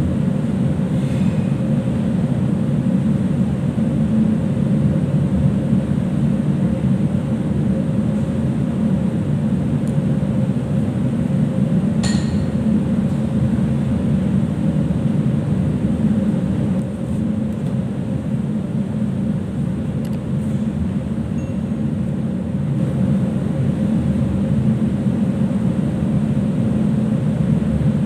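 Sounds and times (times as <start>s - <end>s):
ship machinery drone: 0.0s - 28.0s.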